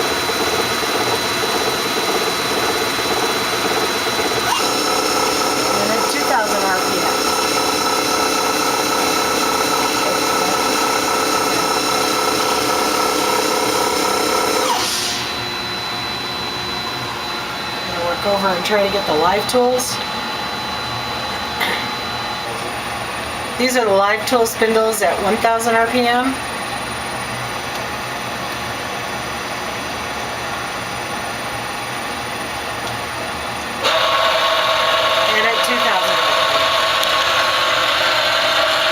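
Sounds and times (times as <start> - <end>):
lathe spindle whine winding down: 0.0 - 38.9
steady machine hum: 0.0 - 38.9.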